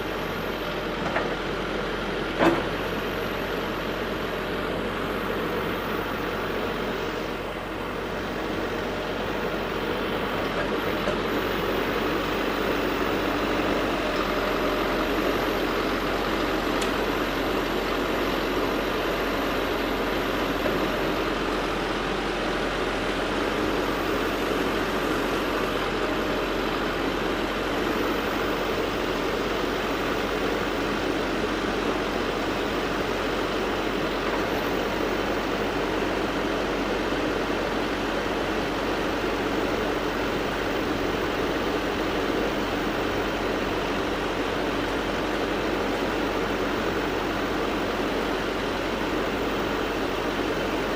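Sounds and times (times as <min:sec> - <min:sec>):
backhoe diesel engine running: 0:00.0 - 0:50.9.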